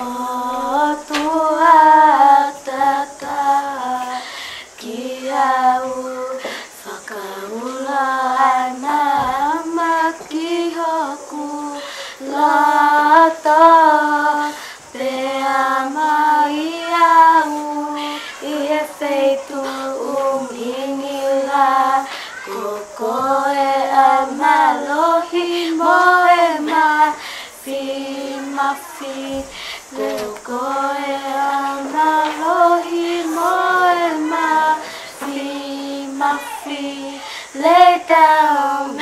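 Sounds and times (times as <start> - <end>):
child singing: 0.0 - 39.0.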